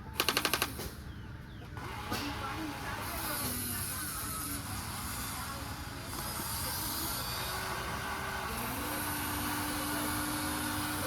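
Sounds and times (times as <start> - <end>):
toy electric motors whining: 1.8 - 11.0.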